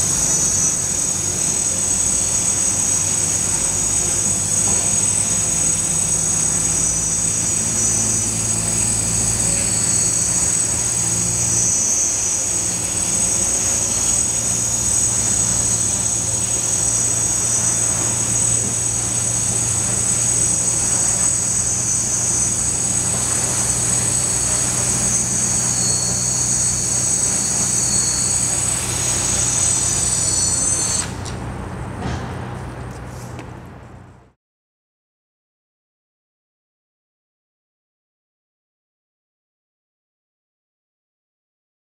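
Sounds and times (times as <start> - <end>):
drone motors whining: 0.0 - 34.2.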